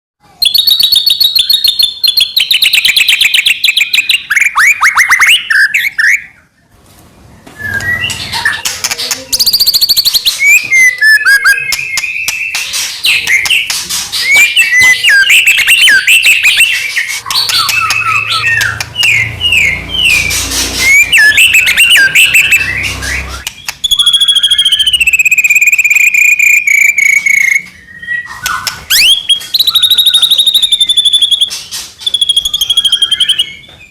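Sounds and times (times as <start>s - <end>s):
songbird singing loudly: 0.4s - 6.6s, 7.6s - 33.9s.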